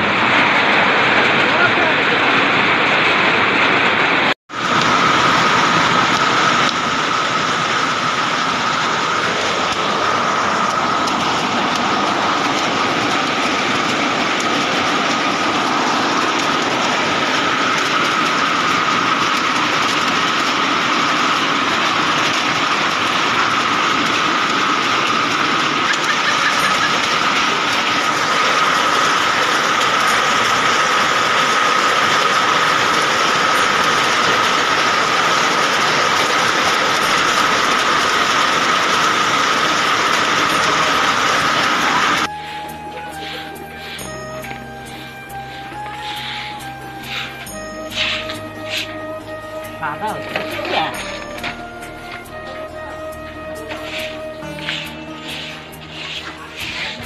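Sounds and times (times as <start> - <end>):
hail pelting on roof: 0.0 - 57.0
steady high tone: 4.5 - 57.0.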